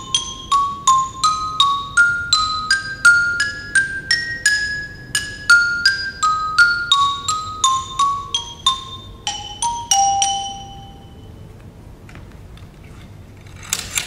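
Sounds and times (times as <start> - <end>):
mallet keyboard notes: 0.0 - 11.4.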